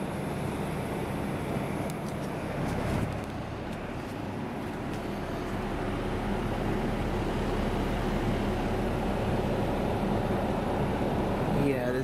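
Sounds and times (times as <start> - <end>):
air conditioner fan whoosh: 0.0 - 12.0.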